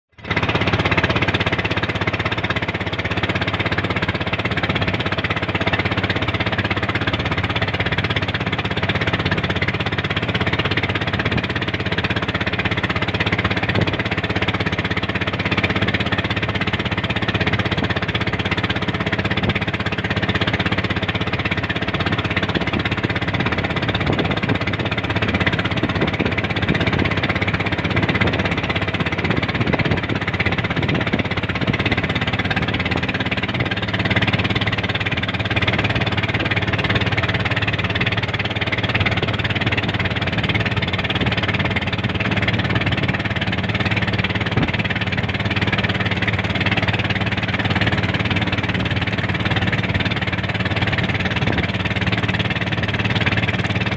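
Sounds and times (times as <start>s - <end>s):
boat engine running: 0.1s - 53.9s.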